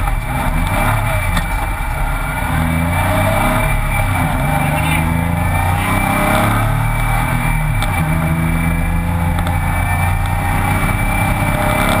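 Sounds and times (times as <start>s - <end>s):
race car engine running hard: 0.0s - 12.0s
wind and road noise: 0.0s - 12.0s.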